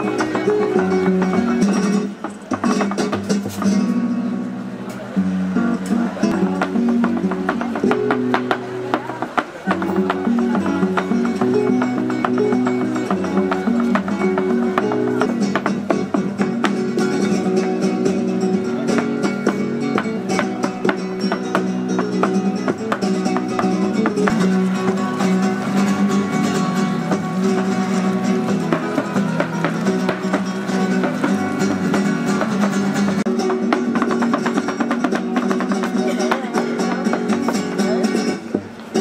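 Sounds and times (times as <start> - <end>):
flamenco acoustic guitar: 0.0 - 39.0.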